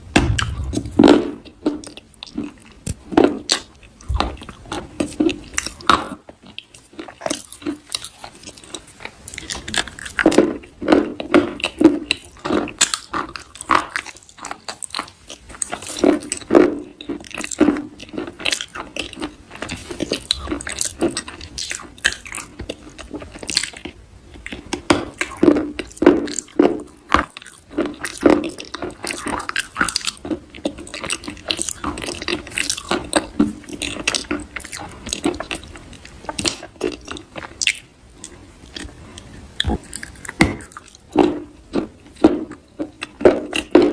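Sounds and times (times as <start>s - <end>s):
crunching and chewing: 0.2s - 43.9s.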